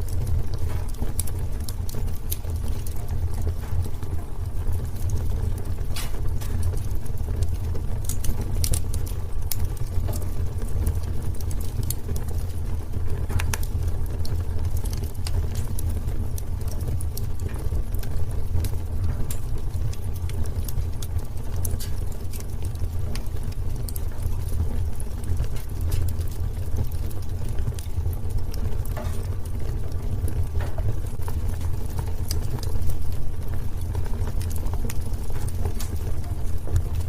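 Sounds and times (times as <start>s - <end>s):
low rumble of flames: 0.0s - 37.0s
wood crackling and popping: 0.0s - 37.0s.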